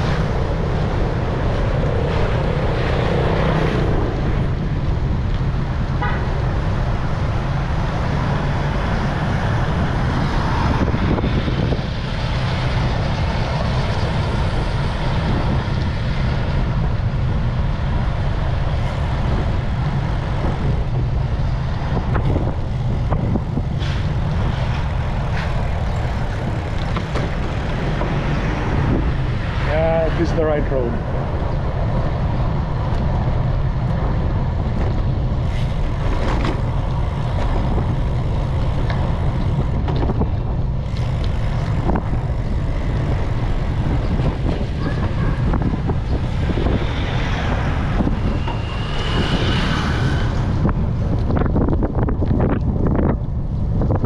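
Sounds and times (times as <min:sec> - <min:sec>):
road noise: 0:00.0 - 0:54.0
wind rush: 0:00.0 - 0:54.0
motor vehicle passing: 0:06.5 - 0:53.6.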